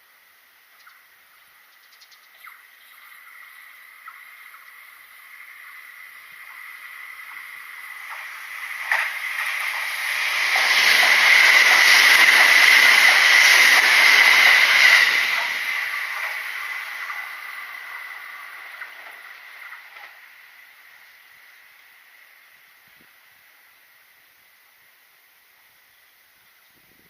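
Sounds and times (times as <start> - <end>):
electric train passing: 0.7 - 25.5.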